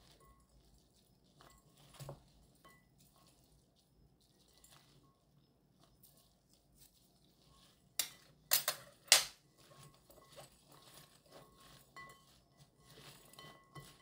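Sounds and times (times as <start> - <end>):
vegetable strips rustling in glass bowl: 0.0 - 14.0.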